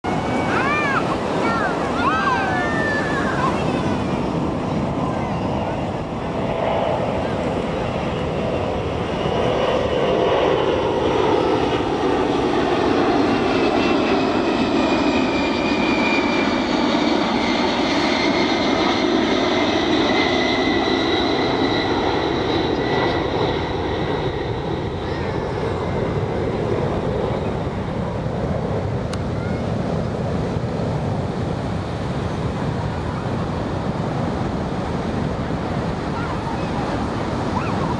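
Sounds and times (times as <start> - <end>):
jet engines roaring overhead: 0.0 - 37.9.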